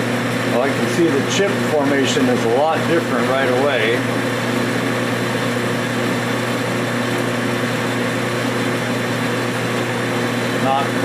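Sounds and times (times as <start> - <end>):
lathe drive hum: 0.0 - 11.0.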